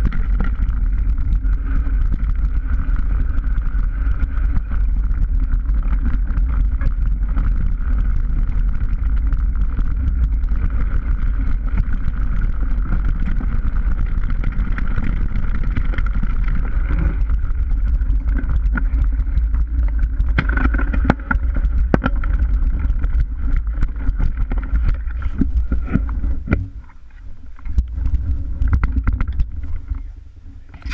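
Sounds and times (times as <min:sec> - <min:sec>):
mountain bike rattling on stony trail: 0:00.0 - 0:30.9
wheels knocking on stones: 0:00.0 - 0:30.9
wind rumble on microphone: 0:00.0 - 0:30.9.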